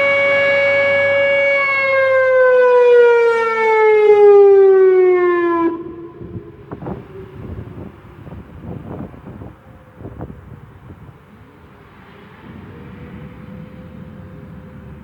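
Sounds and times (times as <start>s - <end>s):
outdoor warning siren: 0.0s - 15.0s.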